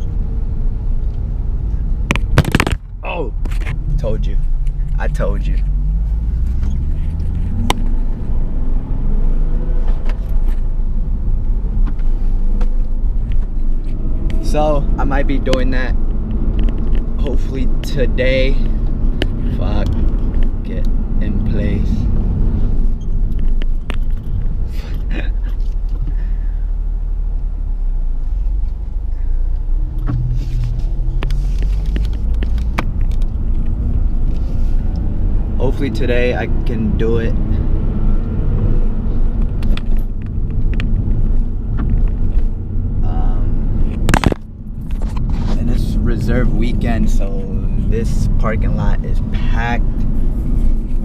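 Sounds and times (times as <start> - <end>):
car engine running: 0.0 - 51.0
road rumble: 0.0 - 51.0.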